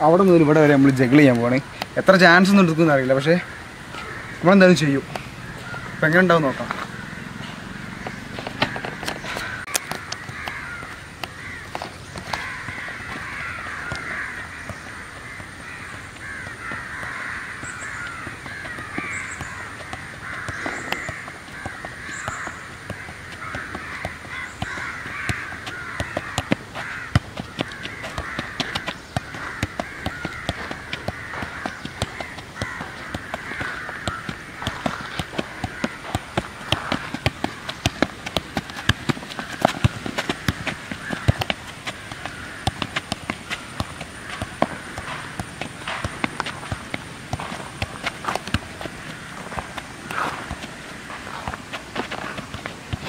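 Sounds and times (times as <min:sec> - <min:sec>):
birds calling: 0:00.0 - 0:53.0
football taps on feet: 0:08.0 - 0:53.0.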